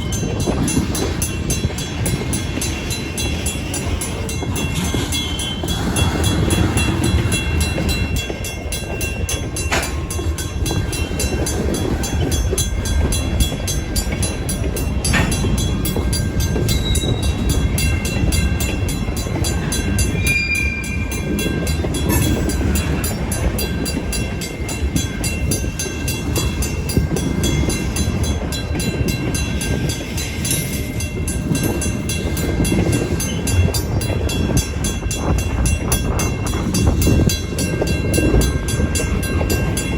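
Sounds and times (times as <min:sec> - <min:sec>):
crossing bell ringing: 0:00.0 - 0:39.9
freight cars clanking: 0:00.0 - 0:39.9
train wheels rumbling on rails: 0:00.0 - 0:39.9.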